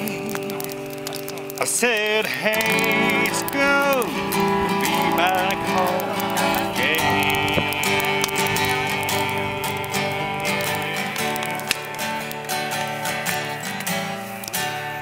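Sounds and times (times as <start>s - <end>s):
bending melody line: 0.0s - 14.5s
acoustic guitar strumming: 0.0s - 15.0s.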